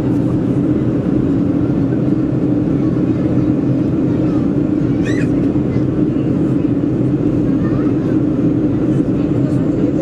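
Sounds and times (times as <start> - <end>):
airplane cabin roar: 0.0 - 10.0.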